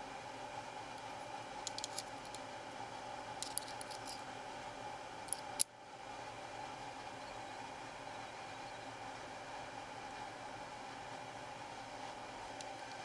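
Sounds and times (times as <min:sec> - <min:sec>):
steady hiss and hum: 0:00.0 - 0:13.0.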